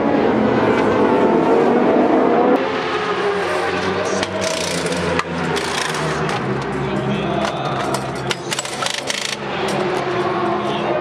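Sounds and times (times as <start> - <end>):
racing motorcycle engines: 0.0 - 11.0.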